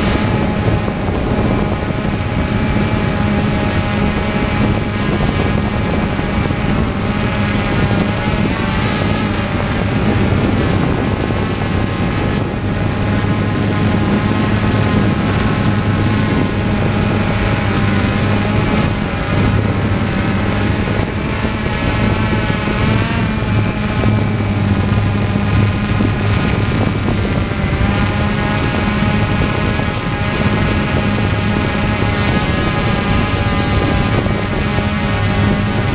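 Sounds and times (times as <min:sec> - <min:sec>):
propeller aircraft hum: 0:00.0 - 0:35.9
wavering high whine: 0:00.0 - 0:35.9.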